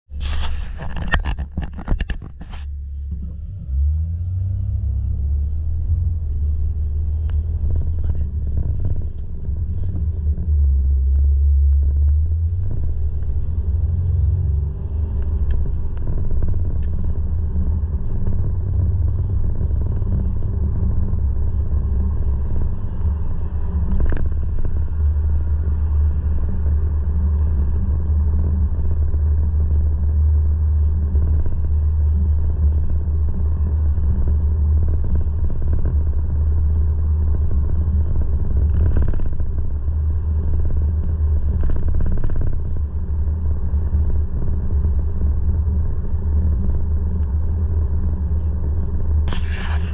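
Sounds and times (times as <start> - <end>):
loud low rumble: 0.1 - 49.9.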